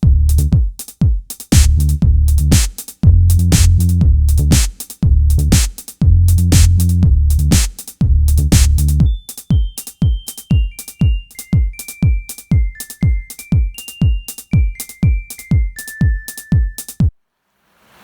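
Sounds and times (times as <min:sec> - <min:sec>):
kick drums and hi-hats: 0:00.0 - 0:17.2.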